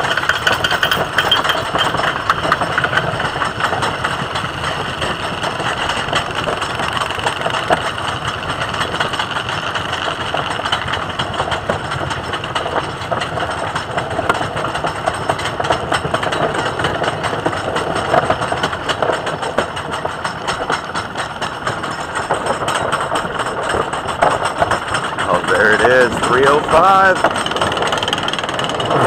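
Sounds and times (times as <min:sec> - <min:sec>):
roller coaster chain lift clatter: 0:00.0 - 0:29.0.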